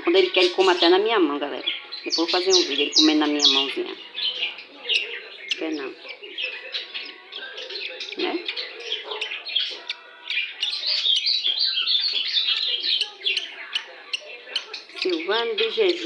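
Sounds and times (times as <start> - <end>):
fledgling bird chirping: 0.0 - 16.0.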